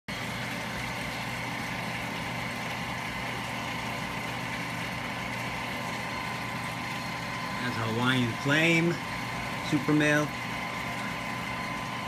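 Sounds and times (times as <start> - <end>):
aquarium pumps humming: 0.1 - 12.0
water circulation rushing: 0.1 - 12.0.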